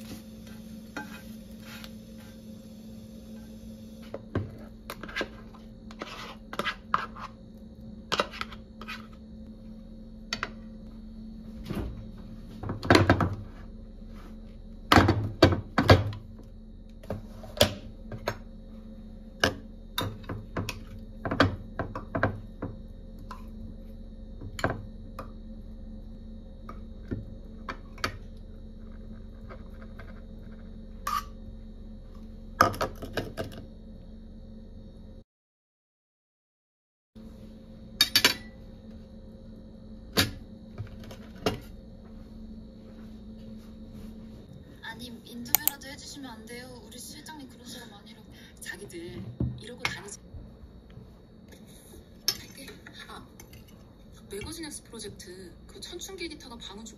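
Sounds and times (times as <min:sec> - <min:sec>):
steady low hum: 0:00.0 - 0:35.2, 0:37.2 - 0:56.9.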